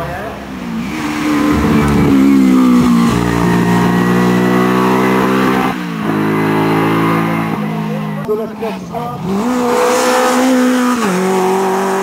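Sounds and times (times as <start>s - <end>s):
racing car engine at high revs: 0.0s - 12.0s.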